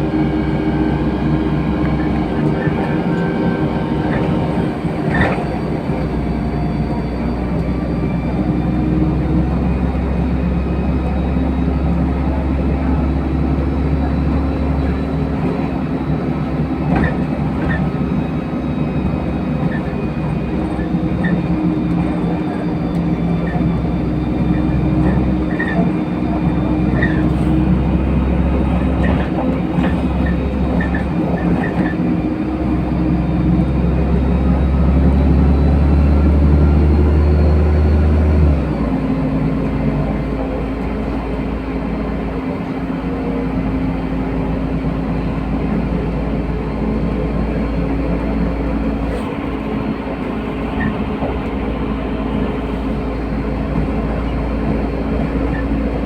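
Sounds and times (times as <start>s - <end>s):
bus engine drone: 0.0s - 56.0s
road noise: 0.0s - 56.0s
steady whine: 0.0s - 56.0s.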